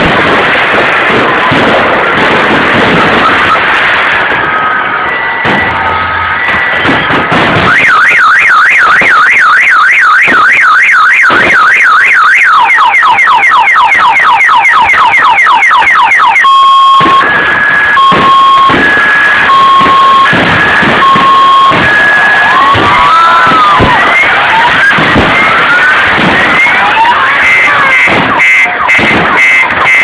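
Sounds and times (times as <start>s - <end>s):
fireworks bangs: 0.0s - 30.0s
car alarm siren: 1.1s - 30.0s.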